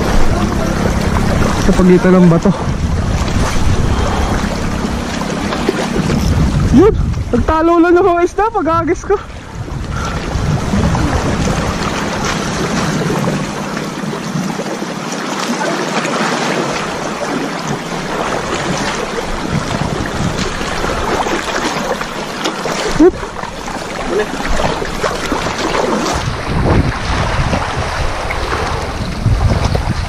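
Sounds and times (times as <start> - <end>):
sea water splashing on rocks: 0.0 - 7.6, 9.6 - 30.0
wind buffeting microphone: 0.0 - 15.0, 16.4 - 30.0.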